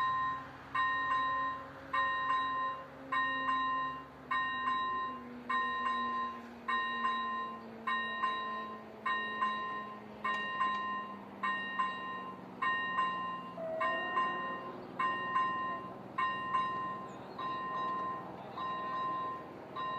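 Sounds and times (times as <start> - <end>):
level crossing warning bell ringing: 0.0 - 19.9.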